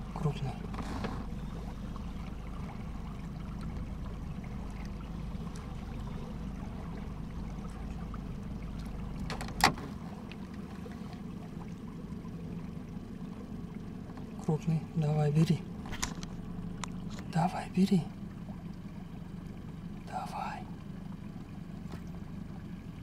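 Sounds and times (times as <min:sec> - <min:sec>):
low rumble of a boat: 0:00.0 - 0:23.0
water lapping at hull: 0:00.0 - 0:23.0.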